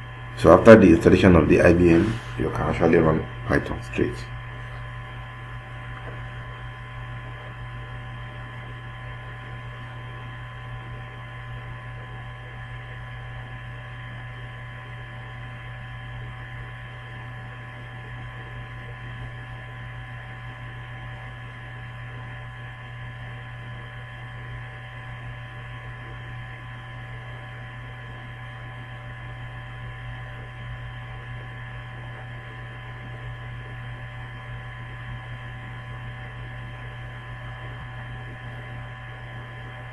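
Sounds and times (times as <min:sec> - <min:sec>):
steady electrical hum: 0:00.0 - 0:39.9.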